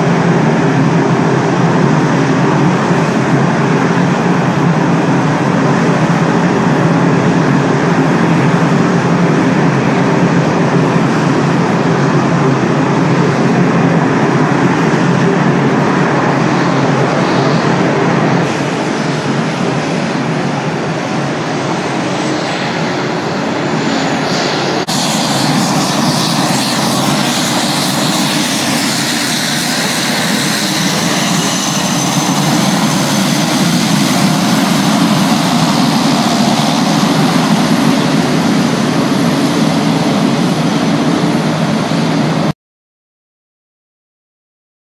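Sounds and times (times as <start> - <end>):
turboprop engine running: 0.0 - 42.5.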